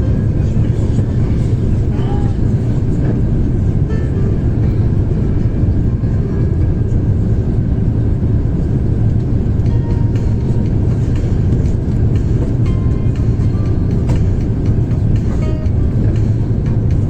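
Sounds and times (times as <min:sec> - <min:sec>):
aircraft cabin engine roar: 0:00.0 - 0:17.0.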